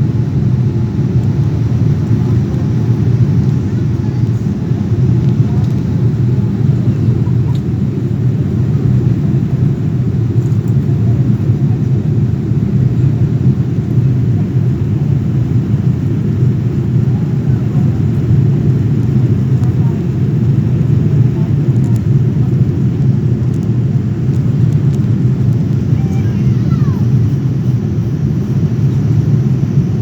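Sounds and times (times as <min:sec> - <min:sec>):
airliner engines and airflow in cabin: 0:00.0 - 0:30.0.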